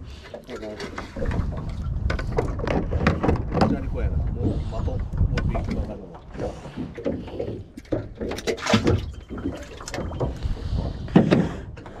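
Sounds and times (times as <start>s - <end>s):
fishing gear knocking and clattering: 0.3s - 11.7s.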